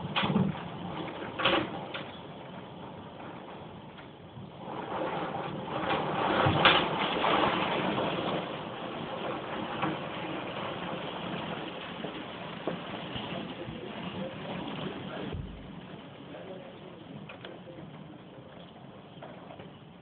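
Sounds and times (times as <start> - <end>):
thunder rumble and crack: 0.0 - 20.0.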